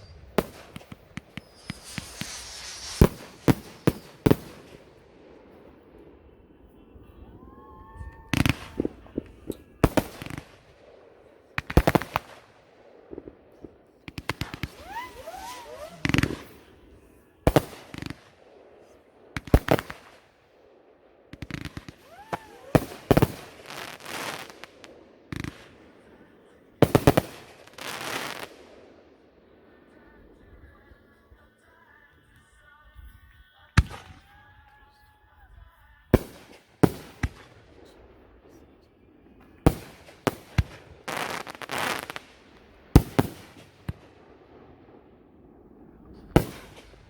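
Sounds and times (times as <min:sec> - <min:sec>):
fireworks bangs: 0:00.0 - 0:20.4, 0:21.3 - 0:31.7, 0:36.2 - 0:47.0
fireworks crackling: 0:00.0 - 0:20.4, 0:21.3 - 0:47.0
whistling fireworks: 0:00.0 - 0:47.0.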